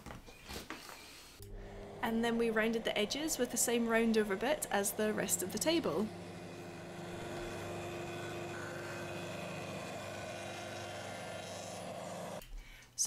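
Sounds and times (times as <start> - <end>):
router running at high speed: 1.4 - 12.4.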